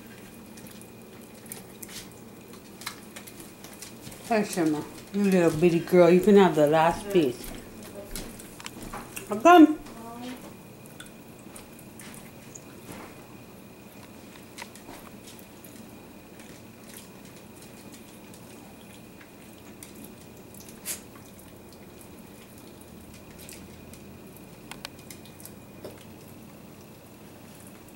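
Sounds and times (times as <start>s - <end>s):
dogs licking lips: 0.0s - 13.2s, 14.0s - 27.9s
faint room hum: 0.0s - 27.9s.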